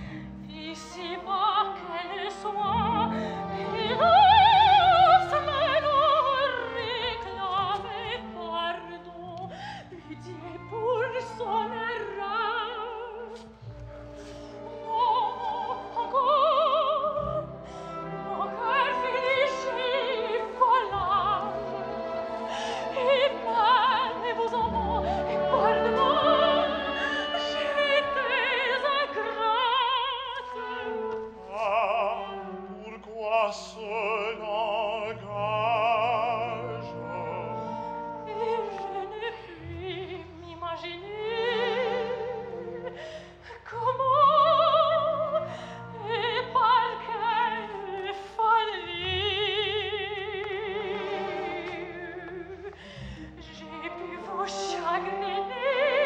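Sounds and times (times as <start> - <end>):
operatic soprano singing: 0.0 - 13.6, 14.4 - 56.0
orchestra playing: 0.0 - 56.0.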